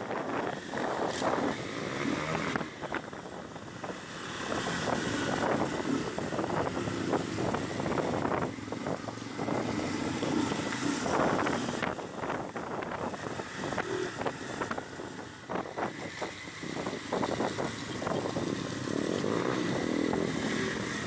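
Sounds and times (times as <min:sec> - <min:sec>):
motorcycle road noise: 0:00.0 - 0:21.0
wind buffeting microphone: 0:00.0 - 0:21.0.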